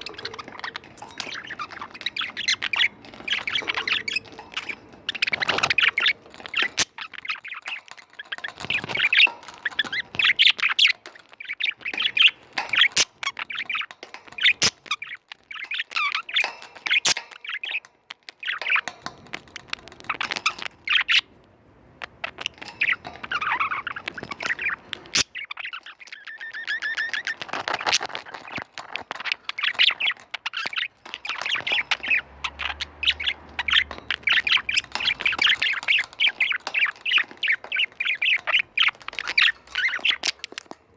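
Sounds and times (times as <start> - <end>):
budgerigars warbling and chattering: 0.0 - 21.4, 22.0 - 40.9.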